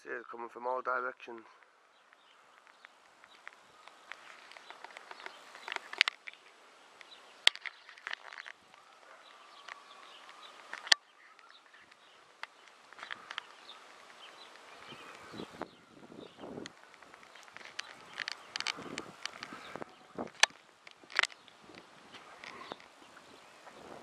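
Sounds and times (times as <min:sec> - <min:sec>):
small birds chirping: 0:00.0 - 0:24.0
sharp clicks: 0:01.6 - 0:15.4, 0:16.6 - 0:23.0.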